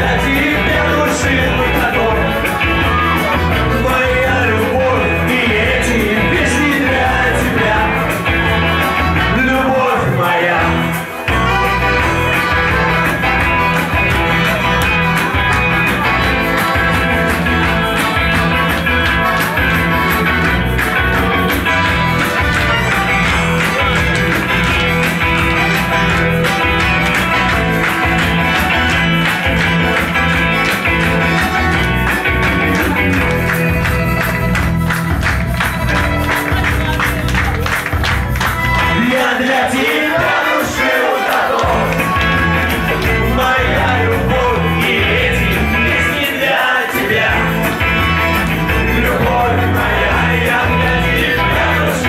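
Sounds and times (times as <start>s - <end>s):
electric guitar: 0.0s - 52.0s
live rock band playing: 0.0s - 52.0s.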